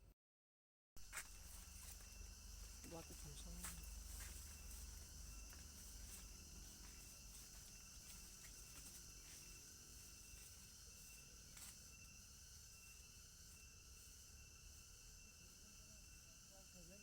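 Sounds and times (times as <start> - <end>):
forest insects chirring: 1.0 - 17.0.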